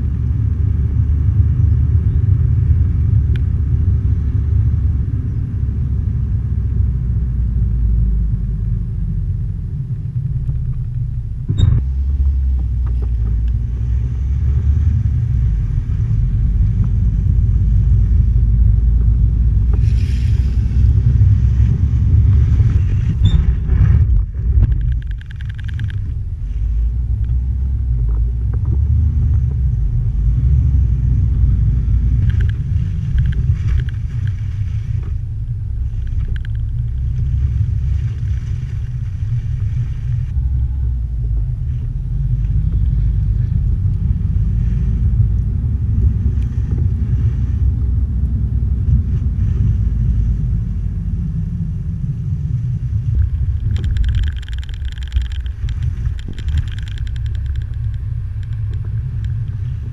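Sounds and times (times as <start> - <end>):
vehicle rumbling: 0.0 - 59.9.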